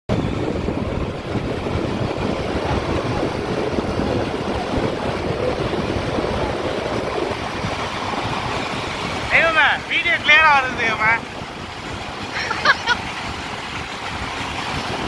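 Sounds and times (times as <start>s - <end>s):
motorcycle engine running: 0.1s - 15.0s
wind buffeting microphone: 0.1s - 15.0s.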